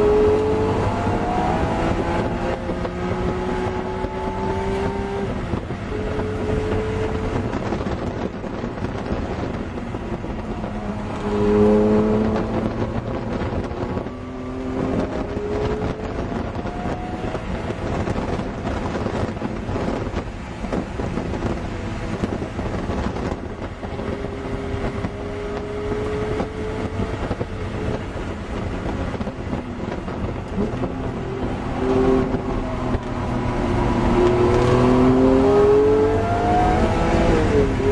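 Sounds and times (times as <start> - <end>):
car engine revving: 0.0 - 37.9
steady rush of noise: 0.0 - 37.9.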